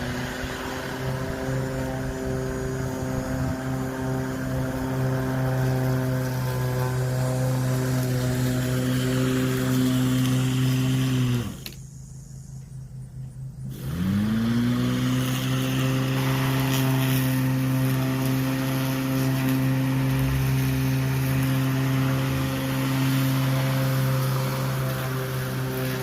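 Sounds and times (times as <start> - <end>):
electric mower motor running: 0.0 - 26.0.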